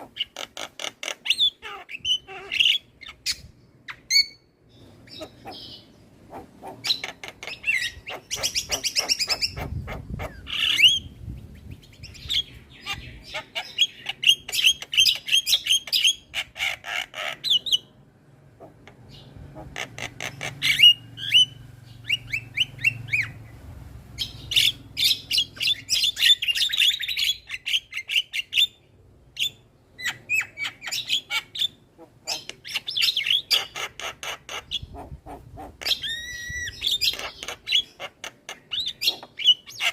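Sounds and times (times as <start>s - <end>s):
bird chattering and whistling: 0.0s - 18.0s, 18.6s - 23.4s, 24.2s - 39.9s.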